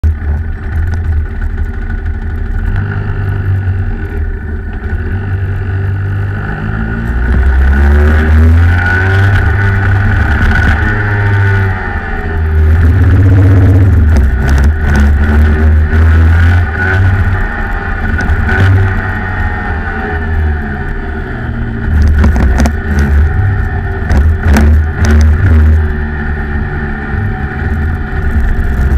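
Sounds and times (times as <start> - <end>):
kart engine running hard: 0.0 - 28.9.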